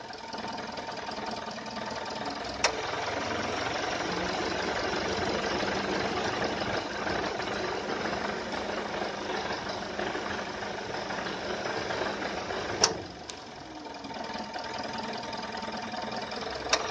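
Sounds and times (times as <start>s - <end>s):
air conditioning compressor running: 0.0s - 16.9s.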